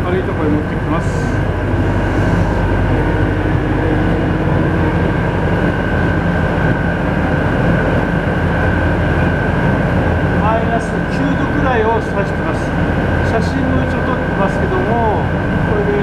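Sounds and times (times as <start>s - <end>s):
constant high whine: 0.0s - 16.0s
refrigeration unit fans humming: 0.0s - 16.0s.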